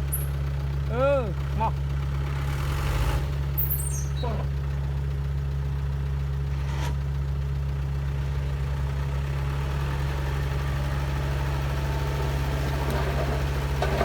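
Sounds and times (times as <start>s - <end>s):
heavy machine engine droning: 0.0s - 14.0s.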